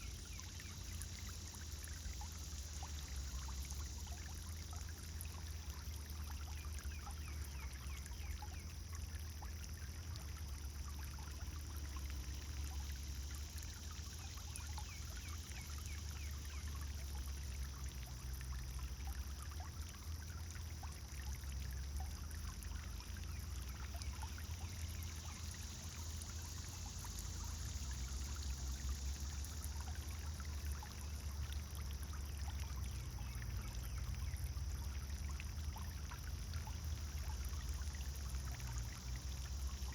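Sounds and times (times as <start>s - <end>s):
fountain splashing into water: 0.0s - 39.9s.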